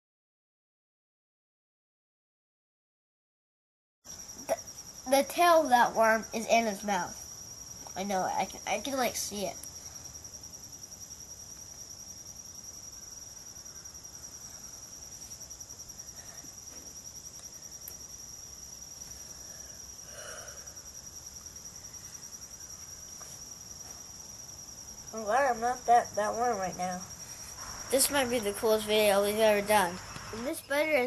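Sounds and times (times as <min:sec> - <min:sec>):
insects trilling: 0:04.1 - 0:31.0.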